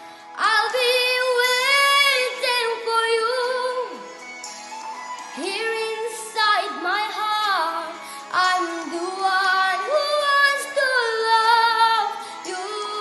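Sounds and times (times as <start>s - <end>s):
girl singing a pop ballad: 0.0s - 13.0s.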